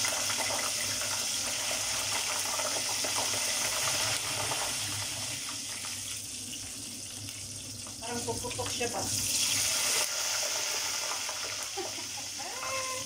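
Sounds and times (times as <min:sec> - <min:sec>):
deep-frying sizzle with crackles: 0:00.0 - 0:13.0.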